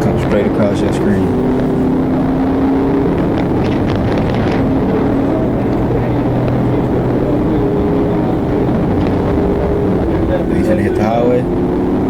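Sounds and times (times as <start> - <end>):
constant rushing noise: 0.0 - 12.0
helicopter engine and rotors: 0.0 - 12.0.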